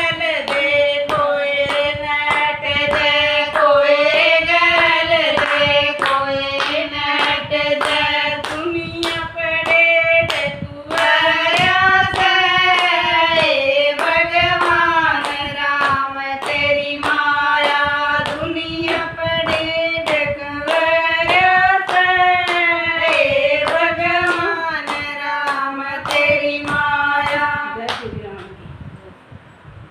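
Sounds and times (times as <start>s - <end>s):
women singing folk song: 0.0s - 27.9s
hand claps: 0.0s - 28.6s.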